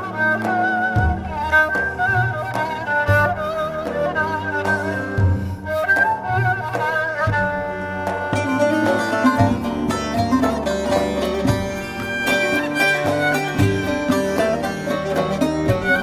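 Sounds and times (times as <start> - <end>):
quickly plucked strings: 0.0 - 16.0
violin melody: 0.0 - 16.0.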